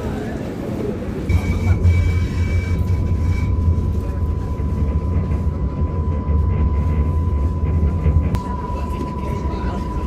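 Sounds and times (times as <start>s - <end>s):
train low rumble: 0.0s - 10.0s
thin steady whine: 1.2s - 10.0s.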